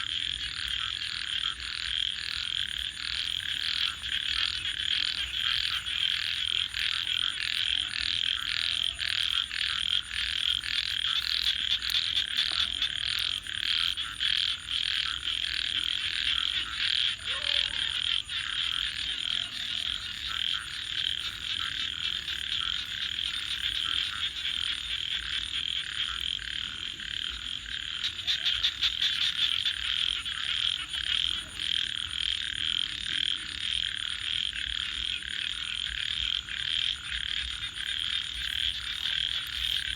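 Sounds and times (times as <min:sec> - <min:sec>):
frogs calling in pulsed trills: 0:00.0 - 0:39.9.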